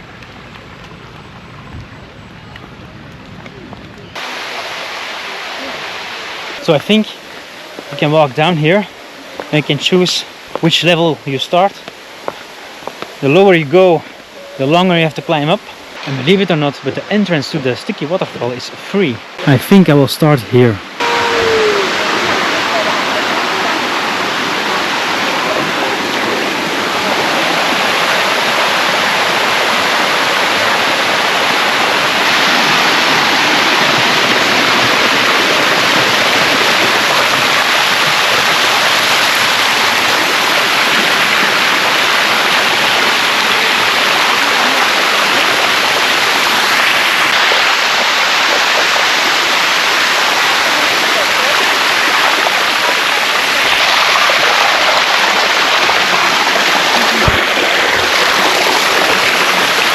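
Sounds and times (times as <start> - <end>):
waterfall rushing over rocks: 4.2 - 59.9.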